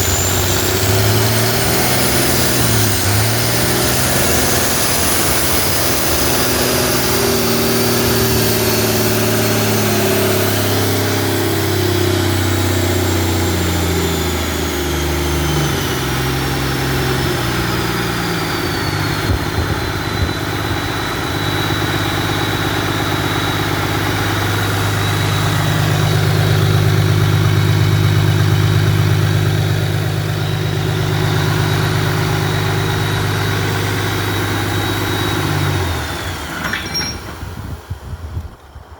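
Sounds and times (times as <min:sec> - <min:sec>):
high whistle falling in pitch: 0:00.0 - 0:37.2
diesel engine running: 0:00.0 - 0:38.9.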